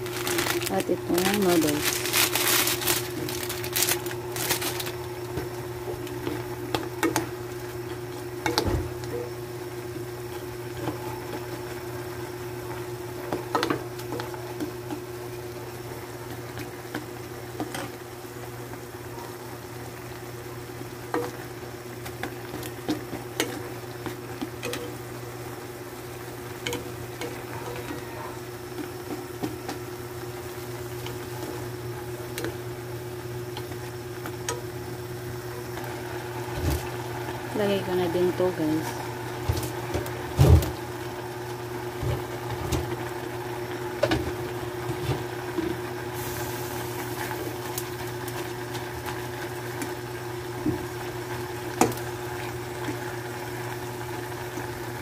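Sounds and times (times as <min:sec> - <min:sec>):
broth bubbling in pot: 0:00.0 - 0:55.0.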